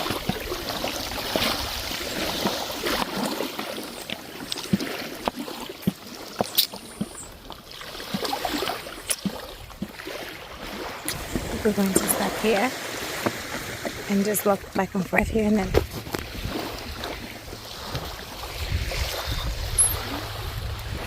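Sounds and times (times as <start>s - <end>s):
small waves washing on shore: 0.0s - 21.0s.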